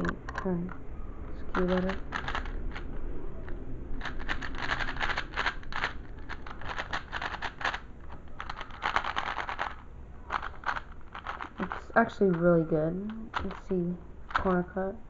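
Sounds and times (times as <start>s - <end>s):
puzzle cube plastic clicking: 1.5s - 14.6s.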